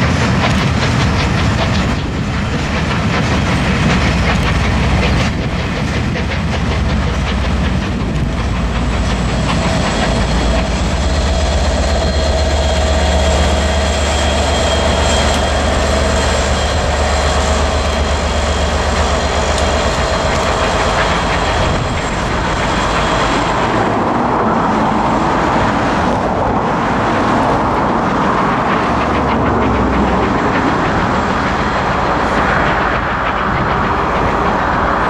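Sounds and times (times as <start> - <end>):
coaches rolling on rails: 0.0 - 35.0
steam locomotive exhaust: 0.0 - 35.0.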